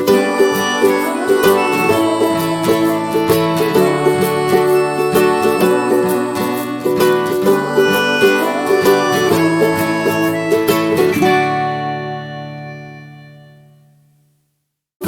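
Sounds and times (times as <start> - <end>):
plucked strings music: 0.0 - 14.1.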